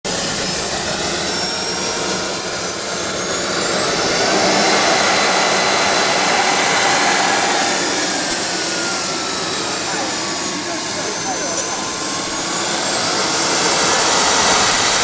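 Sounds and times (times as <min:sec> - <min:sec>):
model jet turbine whine: 0:00.1 - 0:15.0.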